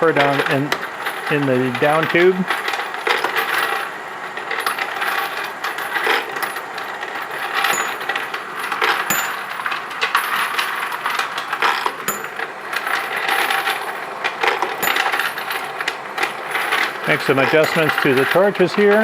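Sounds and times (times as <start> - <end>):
brass cases clattering in hopper: 0.0 - 19.0.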